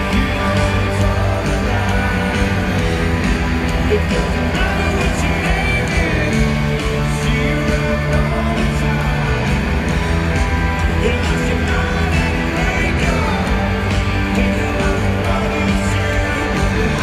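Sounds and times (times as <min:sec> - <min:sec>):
drums: 0:00.0 - 0:17.0
electric guitar: 0:00.0 - 0:17.0
live rock band: 0:00.0 - 0:17.0.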